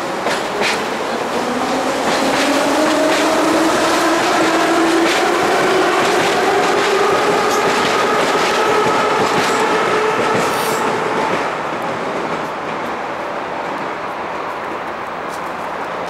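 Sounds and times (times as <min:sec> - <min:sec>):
wheels clattering on rails: 0:00.0 - 0:16.0.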